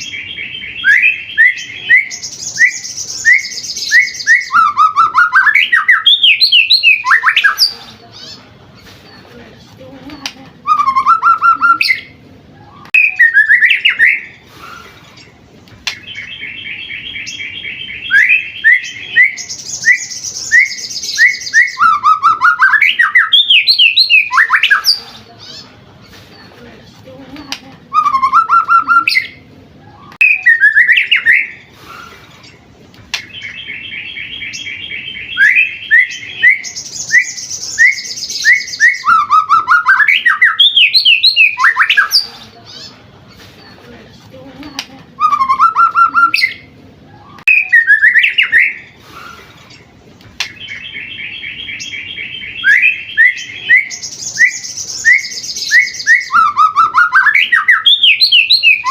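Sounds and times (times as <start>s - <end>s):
songbird singing trills and whistles: 0.0s - 8.4s, 10.2s - 25.7s, 27.4s - 43.0s, 44.7s - 58.9s.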